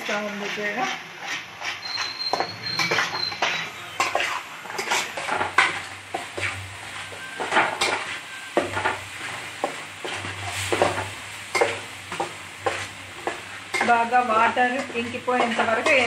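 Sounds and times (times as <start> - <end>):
metal spatula scraping a pan: 0.0 - 16.0.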